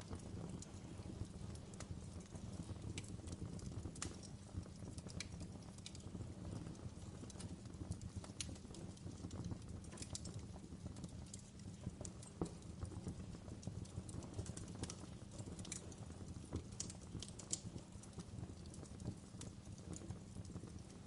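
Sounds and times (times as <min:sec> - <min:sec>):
fire pops and snaps: 0:00.0 - 0:21.0
wood fire crackling: 0:00.0 - 0:21.0.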